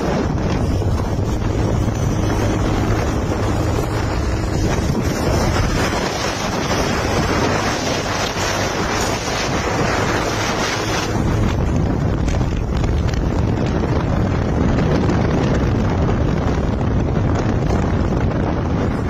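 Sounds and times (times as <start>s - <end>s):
wind buffeting a microphone: 0.0s - 19.0s.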